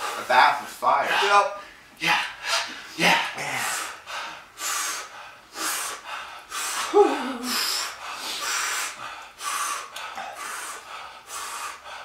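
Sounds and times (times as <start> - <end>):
heavy breathing through mouths: 1.1 - 12.0.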